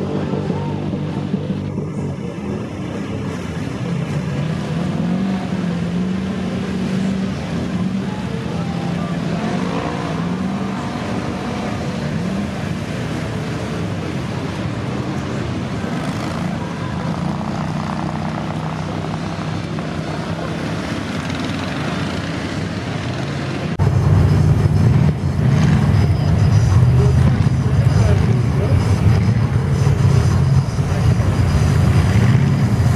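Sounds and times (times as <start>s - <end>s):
loud engine working hard: 0.0s - 32.9s
petrol engine running under load: 0.0s - 32.9s.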